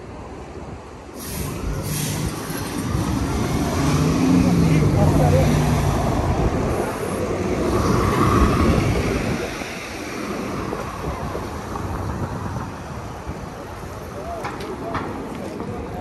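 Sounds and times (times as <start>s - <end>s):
low rumble of passing vehicles: 0.0s - 16.0s.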